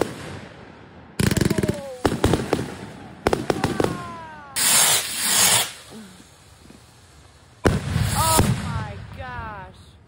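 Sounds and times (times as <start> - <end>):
fireworks bangs: 0.0 - 9.8
fireworks hissing rush: 1.2 - 10.0.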